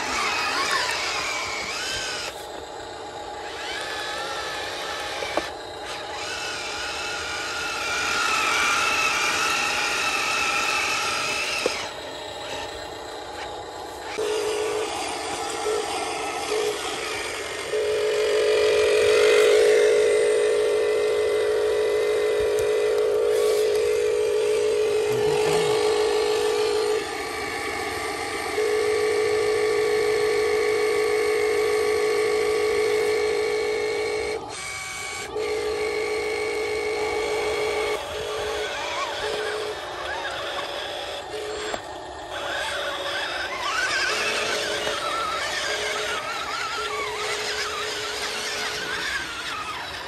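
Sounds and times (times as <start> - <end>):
toy truck electric motor whining: 0.0 - 50.0.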